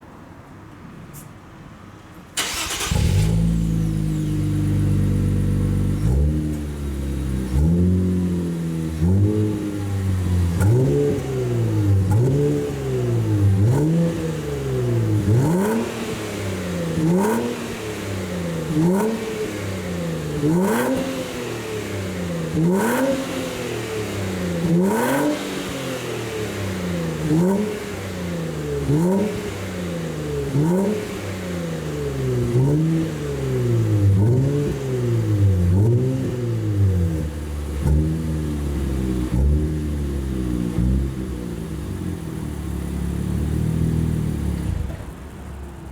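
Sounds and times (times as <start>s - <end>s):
car engine starting: 2.3s - 45.9s
engine revving in throttle blips: 2.4s - 45.2s.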